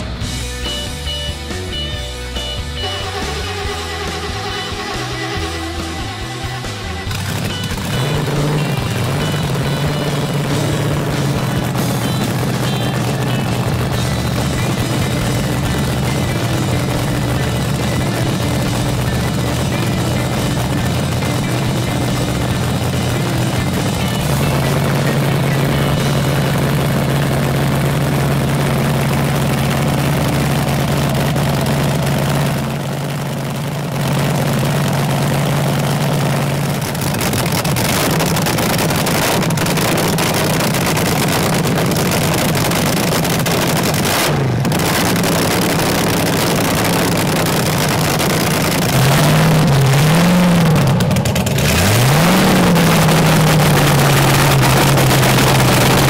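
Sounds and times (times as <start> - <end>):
dragster engine idling: 0.0 - 56.0
engine throttle blips: 0.0 - 56.0.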